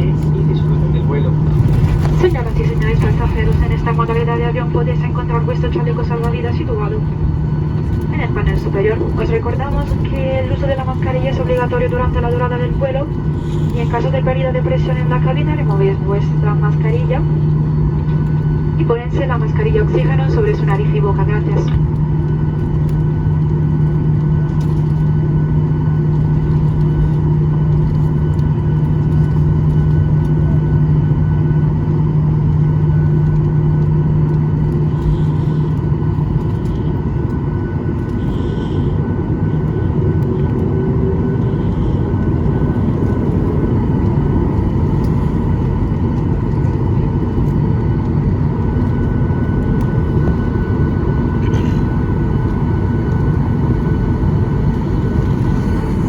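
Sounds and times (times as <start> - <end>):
airplane cabin engine rumble: 0.0 - 56.0
strong low hum: 0.0 - 56.0.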